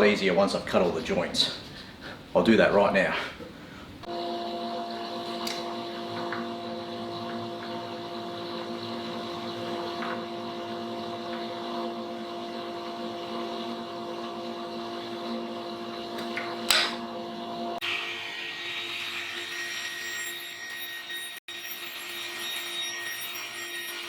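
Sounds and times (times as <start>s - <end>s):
higher machine sound: 4.0s - 24.0s
power tool motor humming: 4.1s - 24.0s.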